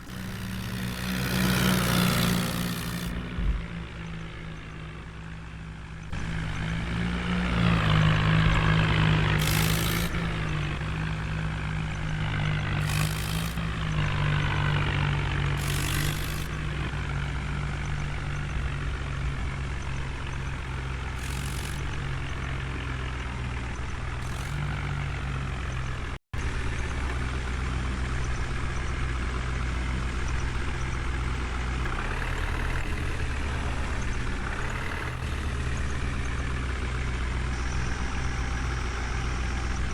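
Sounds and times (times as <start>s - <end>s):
heavy diesel engine working: 0.0s - 39.9s
hydraulics whining: 0.0s - 39.9s.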